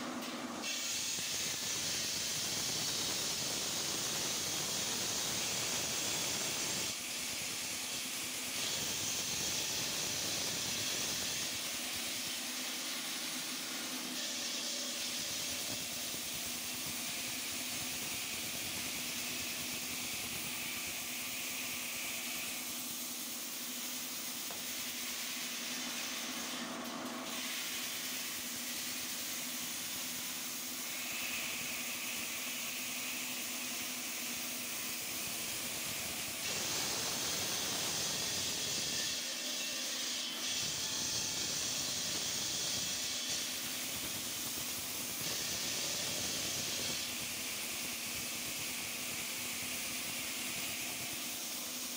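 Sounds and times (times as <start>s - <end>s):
stone-cutting saw hiss: 0.6s - 51.9s.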